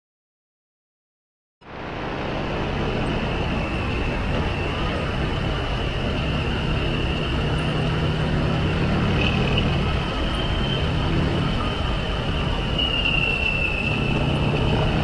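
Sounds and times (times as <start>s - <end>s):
wind and road rush: 1.6s - 15.0s
thin high whine: 1.9s - 15.0s.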